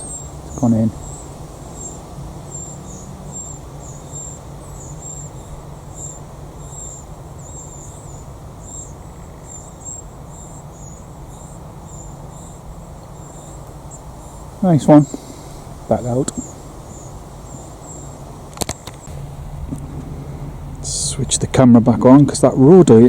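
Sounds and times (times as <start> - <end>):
insect chirping: 0.0 - 23.0
low steady rumble: 0.0 - 23.0.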